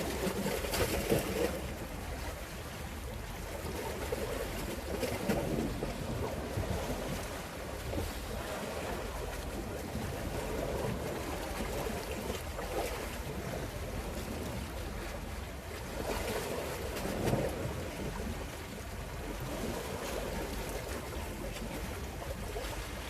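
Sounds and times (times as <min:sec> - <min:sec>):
sea waves: 0:00.0 - 0:23.0.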